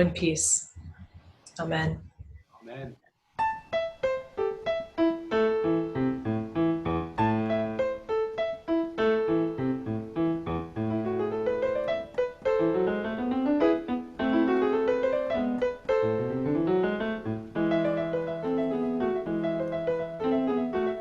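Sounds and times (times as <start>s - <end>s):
solo piano music: 3.4s - 21.0s.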